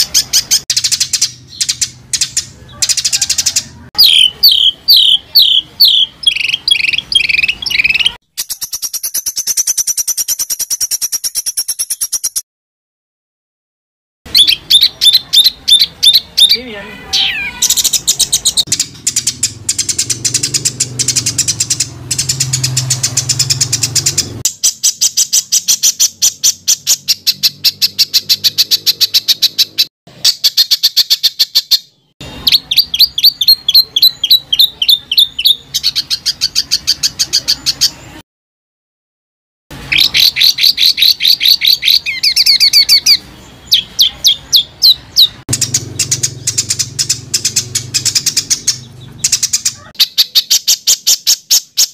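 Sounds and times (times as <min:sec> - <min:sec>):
songbird chirping rapidly: 0:00.0 - 0:12.4, 0:14.3 - 0:38.2, 0:39.7 - 0:51.9.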